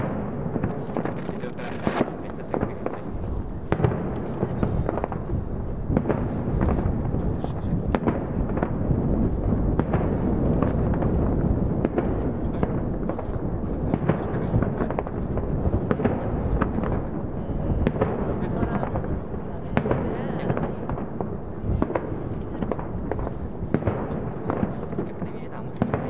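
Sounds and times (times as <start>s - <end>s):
fireworks booming: 0.0s - 26.0s
fireworks sharp cracks: 0.0s - 26.0s.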